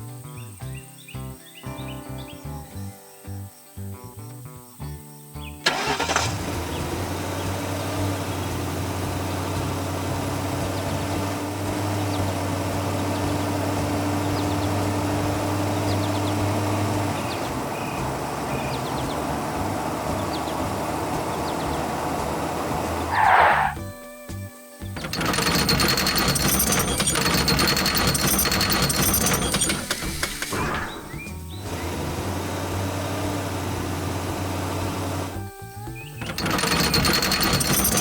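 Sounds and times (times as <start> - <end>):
car engine starting and running: 5.6 - 23.9, 25.0 - 38.0.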